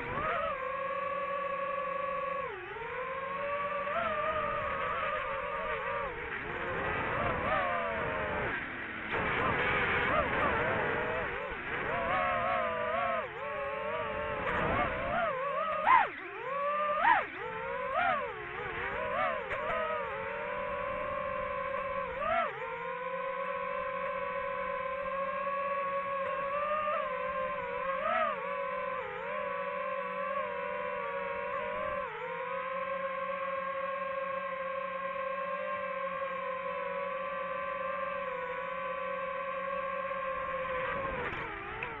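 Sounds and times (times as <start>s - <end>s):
drone propellers whining: 0.0s - 42.0s.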